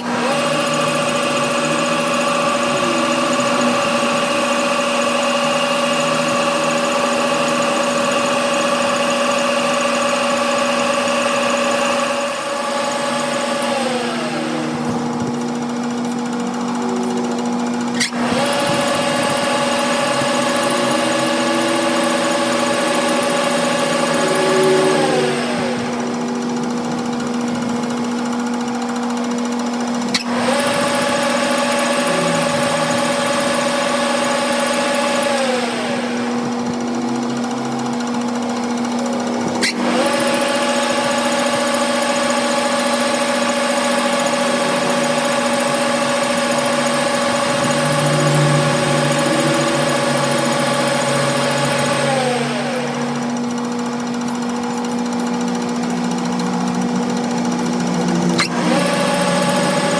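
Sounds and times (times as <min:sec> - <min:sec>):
machine tool motor whine: 0:00.0 - 0:59.9.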